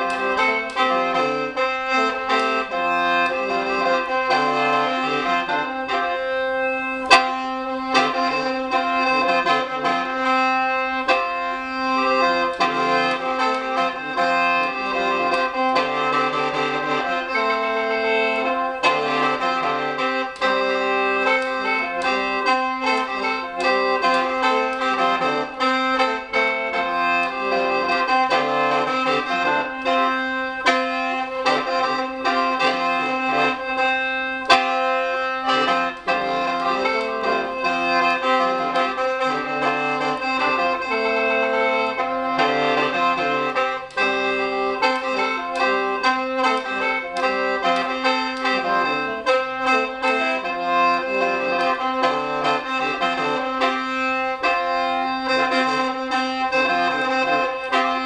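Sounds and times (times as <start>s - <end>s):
free-reed mouth organ melody: 0.0s - 58.0s.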